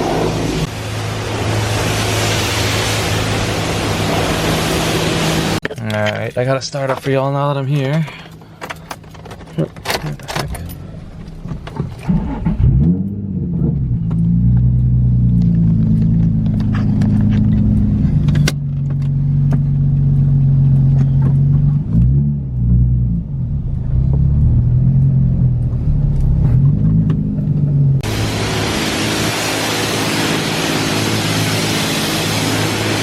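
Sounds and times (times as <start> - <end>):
engine revving: 0.0 - 5.6, 12.0 - 33.0
car engine starting and idling: 0.0 - 33.0.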